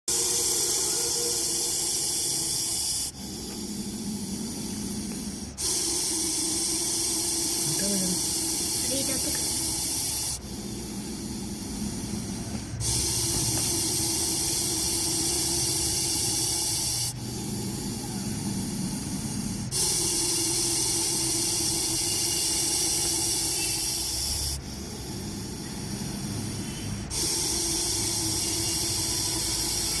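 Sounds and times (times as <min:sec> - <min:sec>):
snake hissing: 0:00.1 - 0:30.0.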